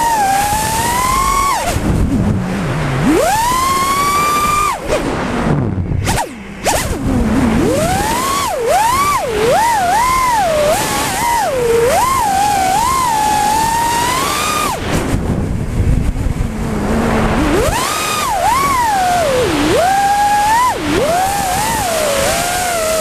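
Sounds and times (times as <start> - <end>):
drone motors whining: 0.0 - 23.0
rushing wind: 0.0 - 23.0.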